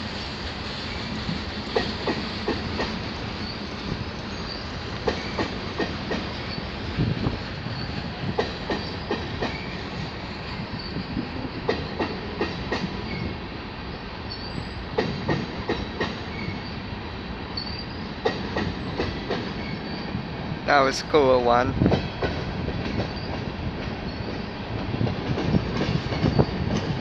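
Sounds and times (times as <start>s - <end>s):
steel wheels rumbling on rail: 0.0s - 27.0s.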